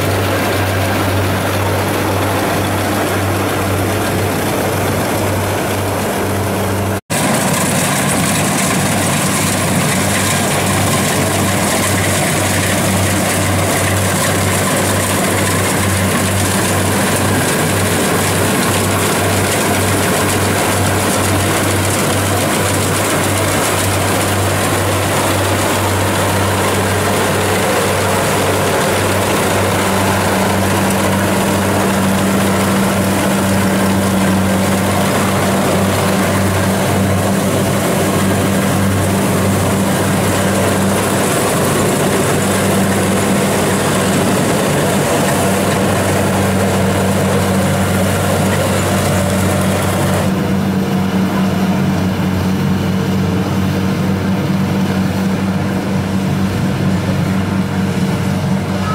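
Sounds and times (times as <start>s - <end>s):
combine harvester engine droning: 0.0s - 58.9s.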